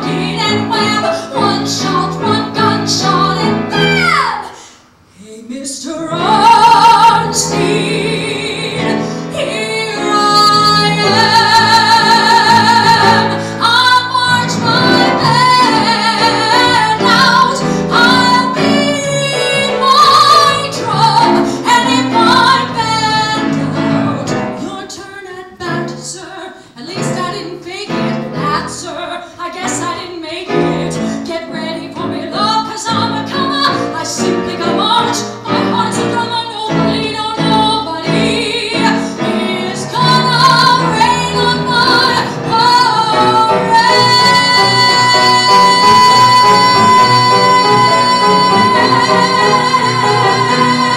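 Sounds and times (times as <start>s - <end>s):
piano accompaniment: 0.0s - 4.4s, 6.0s - 26.3s, 26.9s - 50.9s
woman singing show tune: 0.0s - 50.9s.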